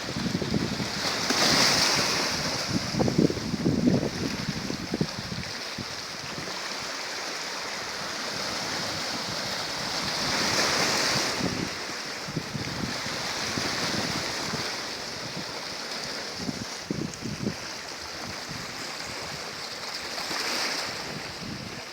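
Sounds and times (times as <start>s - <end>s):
sea waves washing: 0.0s - 21.9s.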